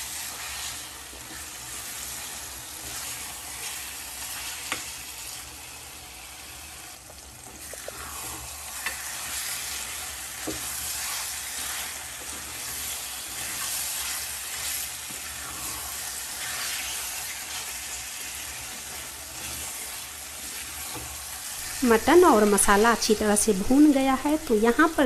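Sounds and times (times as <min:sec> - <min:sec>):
wooden spatula scraping a pan: 0:00.0 - 0:05.4, 0:07.4 - 0:23.8
meat sizzling in a pan: 0:00.0 - 0:25.0.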